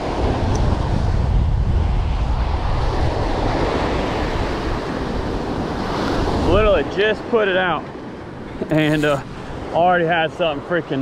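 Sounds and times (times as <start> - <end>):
small waves breaking on sand: 0.0 - 11.0
wind rumbling on microphone: 0.0 - 11.0.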